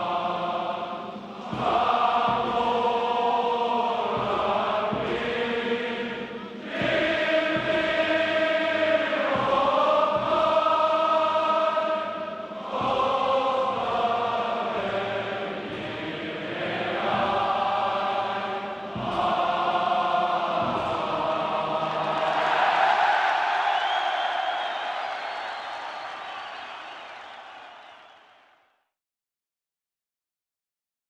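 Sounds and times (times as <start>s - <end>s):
choral chant-like singing: 0.0s - 28.6s.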